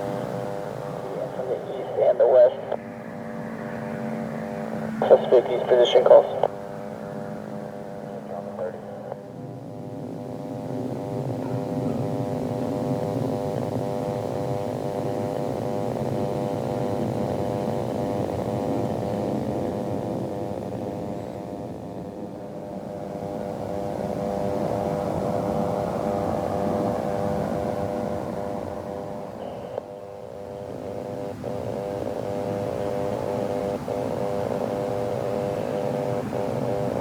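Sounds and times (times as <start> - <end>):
aircraft engines droning: 0.0 - 37.0.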